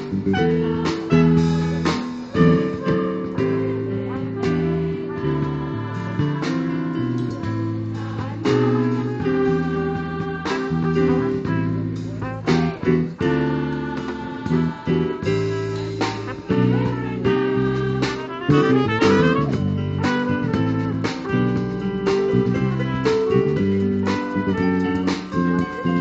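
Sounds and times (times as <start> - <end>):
live band music: 0.0 - 26.0.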